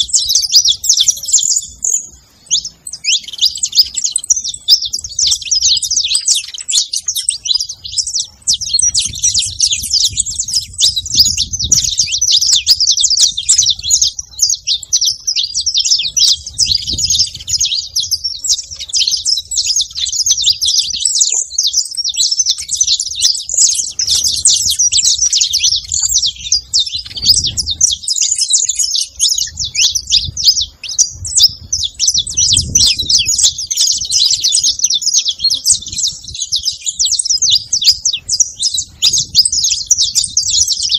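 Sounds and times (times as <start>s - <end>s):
flock of finches chirping: 0.0s - 40.9s.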